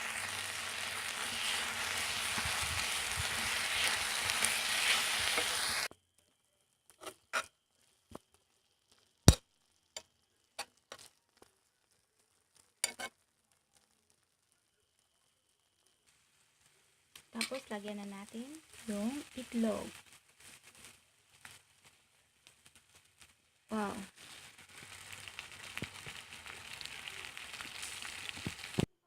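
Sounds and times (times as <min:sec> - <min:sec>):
food sizzling in a pan: 0:00.0 - 0:05.9, 0:06.9 - 0:28.9.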